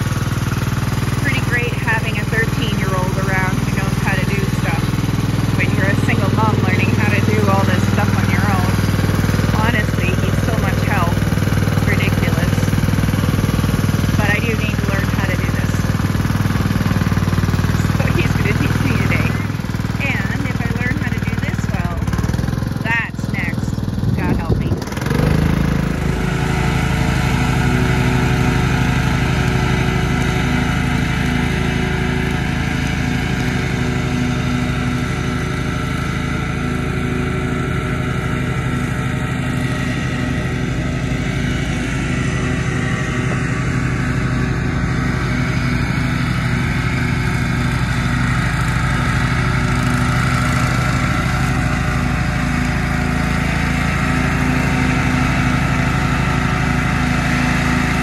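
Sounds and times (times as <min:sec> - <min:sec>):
lawn mower engine drone: 0:00.0 - 0:58.0.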